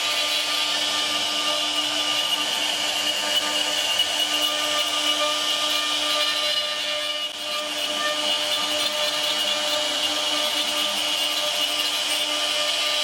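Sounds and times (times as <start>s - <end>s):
router cutting wood: 0.0s - 13.0s.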